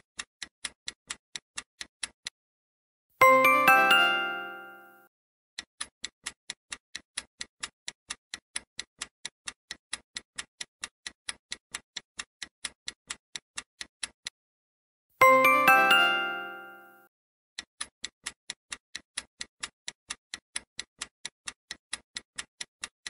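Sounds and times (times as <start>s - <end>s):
clock ticking: 0.0s - 2.3s, 3.2s - 5.0s, 5.6s - 14.4s, 15.2s - 17.0s, 17.6s - 23.0s.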